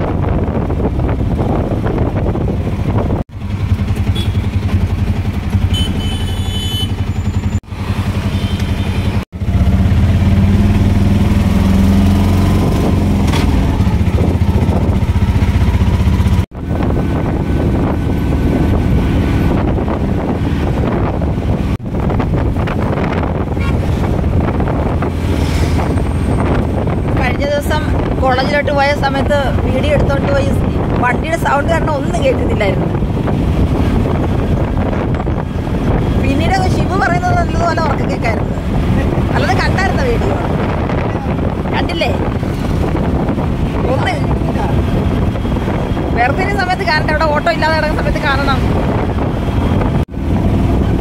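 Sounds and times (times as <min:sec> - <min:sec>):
auto-rickshaw engine running: 0:00.0 - 0:51.0
road noise: 0:00.0 - 0:51.0.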